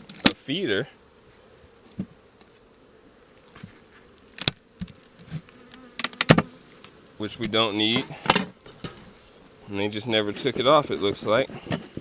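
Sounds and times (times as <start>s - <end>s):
bees buzzing: 0.5s - 12.0s.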